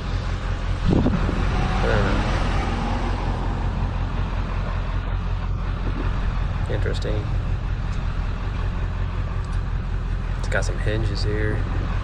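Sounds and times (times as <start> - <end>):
motor vehicle running: 0.0 - 12.0.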